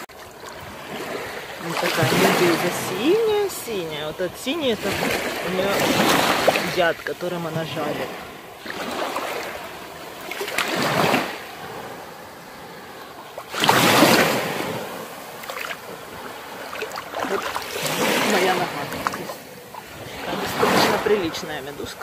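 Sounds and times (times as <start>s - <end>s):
small waves lapping: 0.0s - 22.0s.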